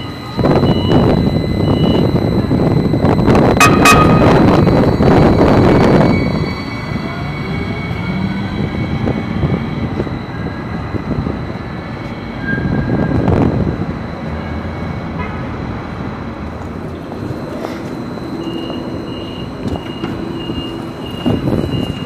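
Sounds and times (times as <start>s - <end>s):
high steady whine: 0.0s - 22.0s
light rail train rumble: 0.0s - 22.0s.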